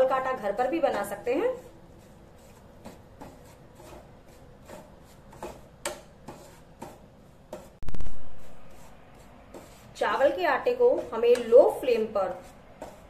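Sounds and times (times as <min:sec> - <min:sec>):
wooden spatula scraping pan: 0:00.0 - 0:13.0.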